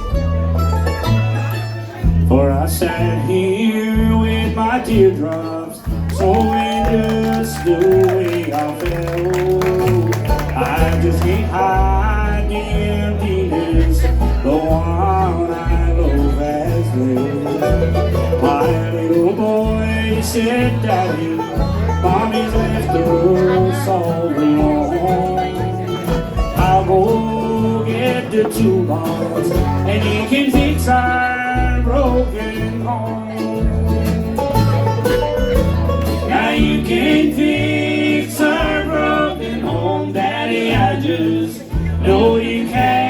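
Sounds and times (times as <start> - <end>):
bass stepping between notes: 0.0 - 19.0, 19.6 - 43.0
banjo: 0.0 - 43.0
guitar: 0.0 - 43.0.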